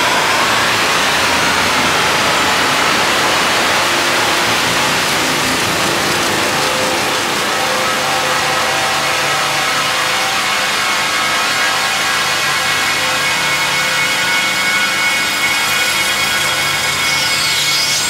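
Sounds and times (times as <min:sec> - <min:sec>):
noisy synthesizer feedback wash: 0:00.0 - 0:18.0.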